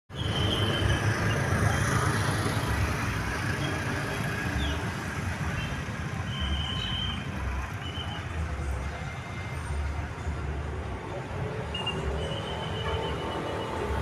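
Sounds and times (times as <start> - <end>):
road and traffic noise: 0.1 - 14.0.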